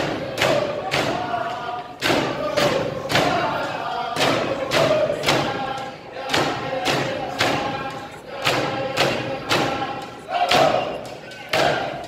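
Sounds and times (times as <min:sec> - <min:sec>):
frame drums beating: 0:00.0 - 0:12.0
group chanting: 0:00.0 - 0:12.0.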